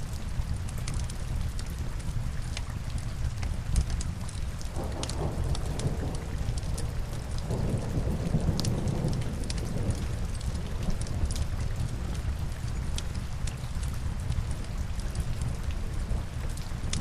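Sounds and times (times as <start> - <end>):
steady rain: 0.0 - 17.0
logs crackling in fireplace: 0.1 - 17.0.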